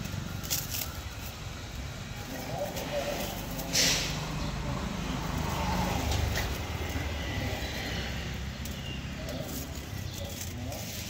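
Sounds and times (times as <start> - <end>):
passing vehicle engine rumble: 0.0 - 11.0.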